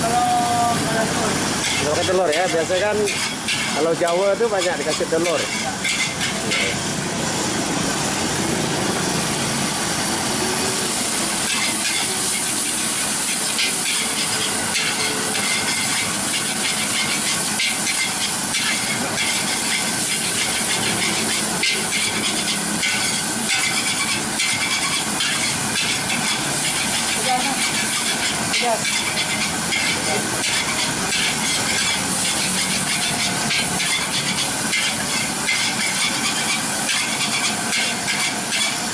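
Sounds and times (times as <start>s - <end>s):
food sizzling in a wok: 0.0s - 38.9s
metal spatula scraping wok: 1.5s - 6.8s, 10.9s - 38.9s.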